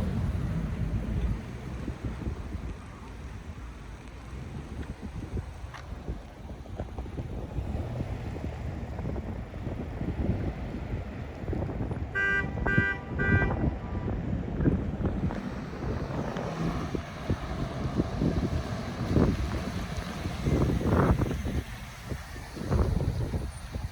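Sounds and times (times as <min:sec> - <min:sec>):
low vehicle rumble: 0:00.0 - 0:23.9
wind buffeting microphone: 0:00.0 - 0:23.9.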